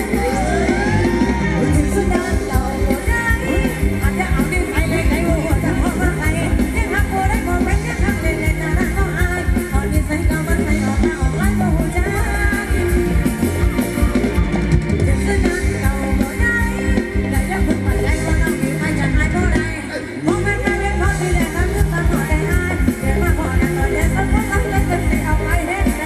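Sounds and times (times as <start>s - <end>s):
person singing: 0.0s - 13.3s, 15.0s - 26.0s
live band playing dance music: 0.0s - 26.0s.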